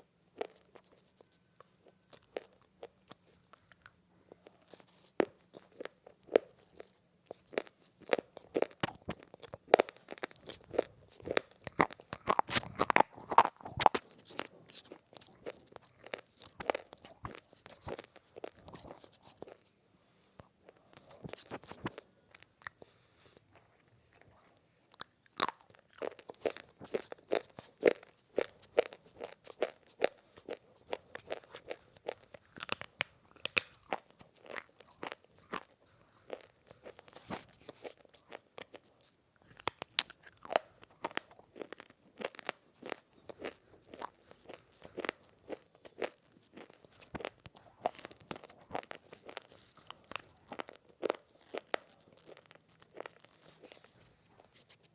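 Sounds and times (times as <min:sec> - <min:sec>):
clay being chewed crunching: 0:00.3 - 0:19.8, 0:20.4 - 0:54.9.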